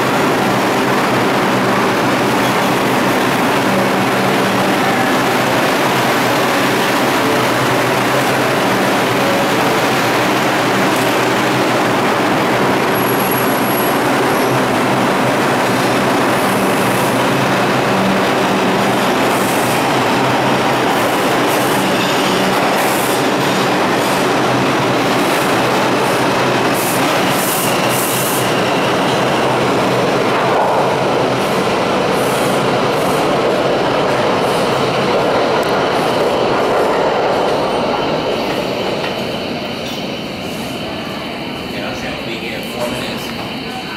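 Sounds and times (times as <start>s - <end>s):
subway train rumbling: 0.0s - 43.9s.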